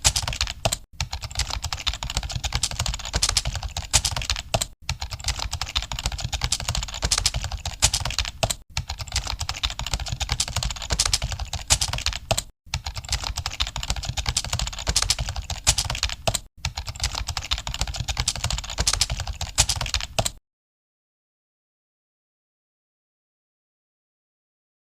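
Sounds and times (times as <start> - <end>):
fast typing on computer keyboard: 0.0 - 20.4.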